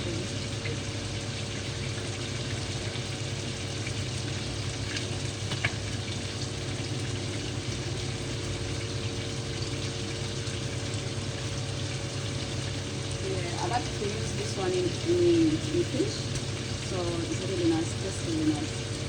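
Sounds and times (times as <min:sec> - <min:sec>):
sauce sizzling in a pot: 0:00.0 - 0:19.0
steady low hum: 0:00.0 - 0:19.0.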